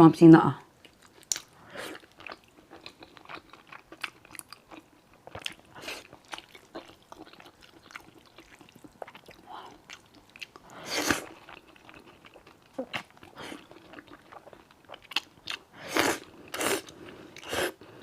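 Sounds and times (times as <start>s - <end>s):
wet chewing mouth sounds: 0.8s - 17.8s.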